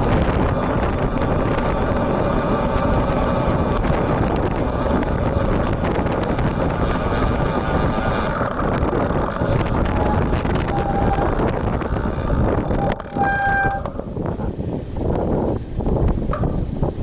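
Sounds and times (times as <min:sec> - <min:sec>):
faint steady hum: 0:00.0 - 0:17.0
road noise: 0:00.0 - 0:17.0
wind buffeting microphone: 0:00.0 - 0:17.0.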